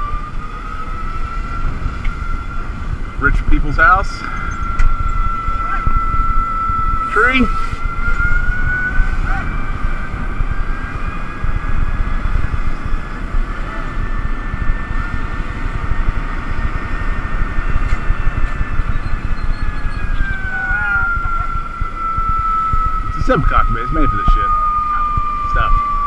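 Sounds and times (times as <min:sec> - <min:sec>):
golf cart motor whine: 0:00.0 - 0:26.0
rolling and wind rumble: 0:00.0 - 0:26.0.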